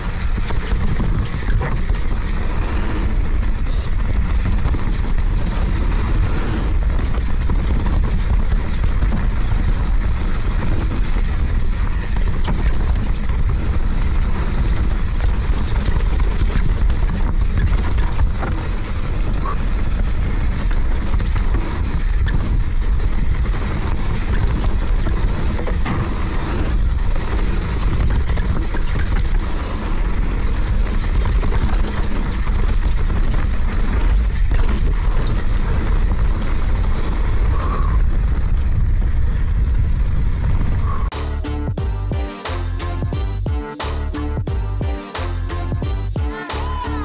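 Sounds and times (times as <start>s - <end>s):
wind buffeting microphone: 0.0s - 41.2s
bike clicks and rattles: 0.0s - 47.0s
tyres rumbling on dirt: 0.0s - 47.0s.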